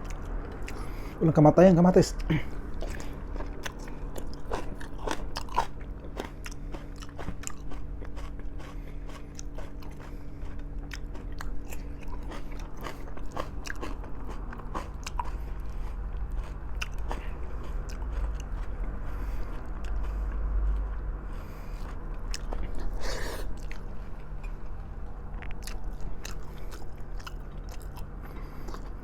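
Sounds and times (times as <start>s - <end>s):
person chewing food: 0.0s - 1.2s, 2.2s - 29.0s
steady low hum: 0.0s - 29.0s.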